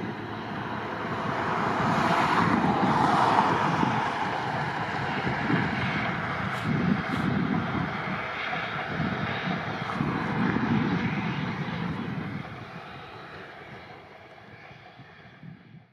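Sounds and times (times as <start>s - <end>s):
steam locomotives rumbling: 0.0s - 15.8s.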